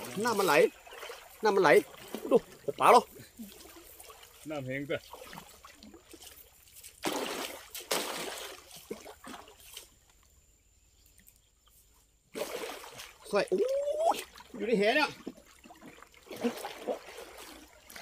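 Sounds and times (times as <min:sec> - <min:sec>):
water splashing and trickling: 0:00.0 - 0:18.0.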